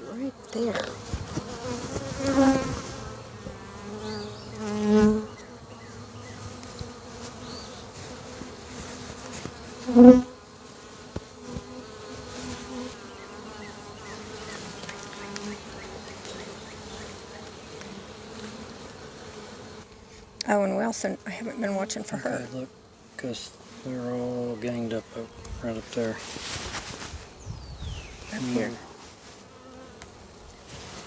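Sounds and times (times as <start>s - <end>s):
honey bees buzzing: 0.0s - 31.0s.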